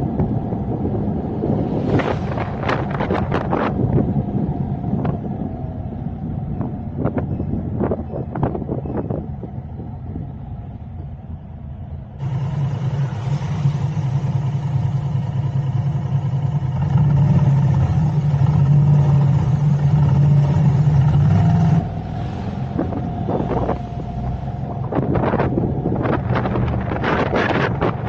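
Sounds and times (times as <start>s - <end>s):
road noise: 0.0s - 28.0s
vehicle engine hum: 0.0s - 28.0s.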